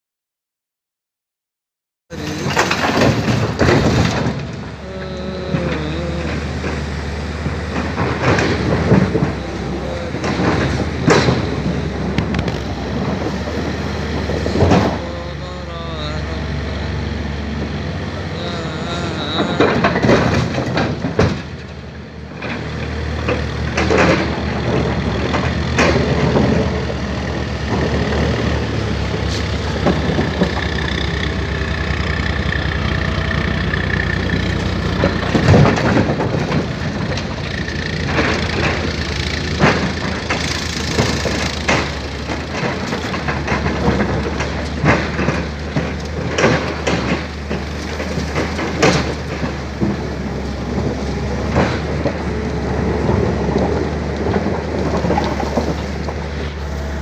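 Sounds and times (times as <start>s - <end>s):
excavator diesel engine running: 2.1s - 57.0s
rocks clanking against steel: 2.2s - 4.8s, 5.5s - 15.1s, 17.5s - 57.0s.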